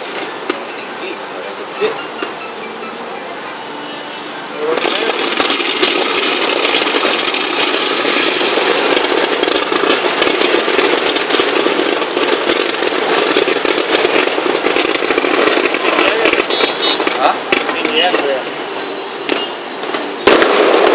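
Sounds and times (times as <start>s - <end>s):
firework fountain hissing and crackling: 0.0s - 20.9s.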